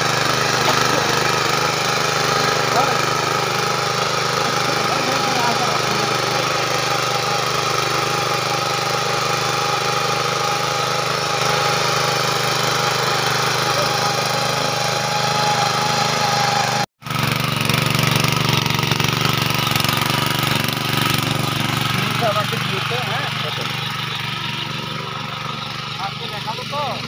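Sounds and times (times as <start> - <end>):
small petrol engine running: 0.0 - 27.0.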